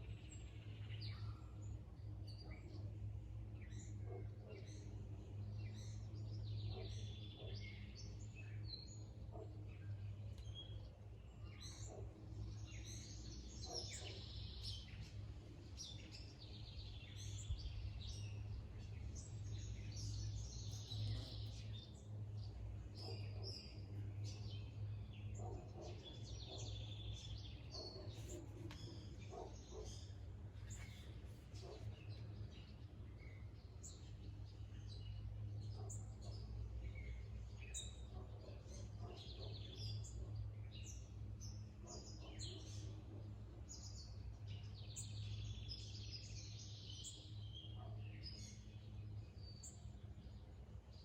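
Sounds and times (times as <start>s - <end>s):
birds chirping and calling: 3.6s - 51.0s.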